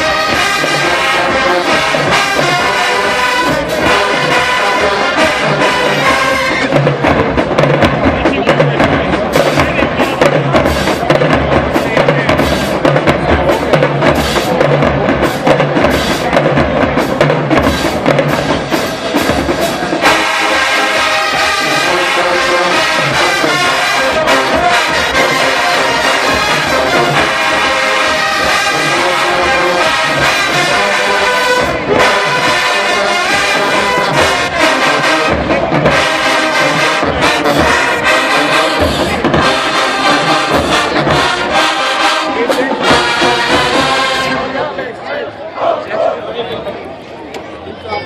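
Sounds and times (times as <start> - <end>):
drum beat: 0.0 - 44.4
brass section: 0.0 - 46.1
marching band playing: 0.0 - 48.0.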